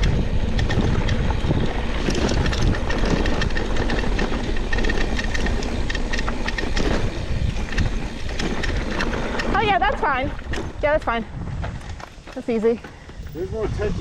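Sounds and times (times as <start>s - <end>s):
bike rattling over bumps: 0.0s - 14.0s
bike tyres on dirt trail: 0.0s - 14.0s.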